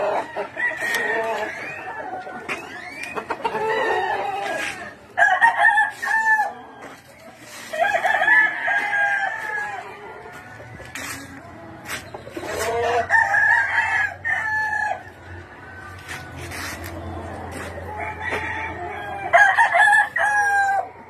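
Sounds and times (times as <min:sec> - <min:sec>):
roosters crowing: 0:00.0 - 0:21.0.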